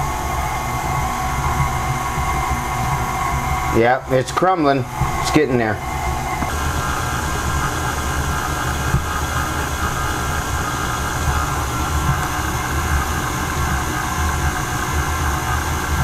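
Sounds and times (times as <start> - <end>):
stand mixer motor humming: 0.0 - 16.0.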